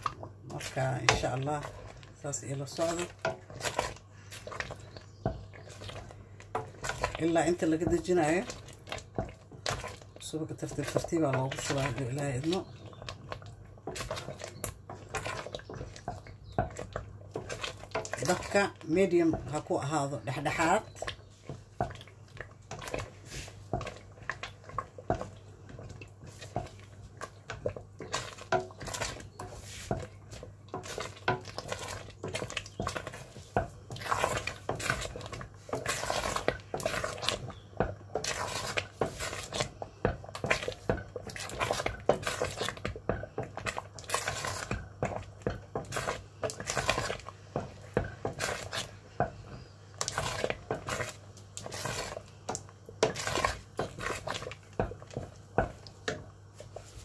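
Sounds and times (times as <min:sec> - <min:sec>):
wooden spoon scraping a metal pot: 0:00.0 - 0:57.0.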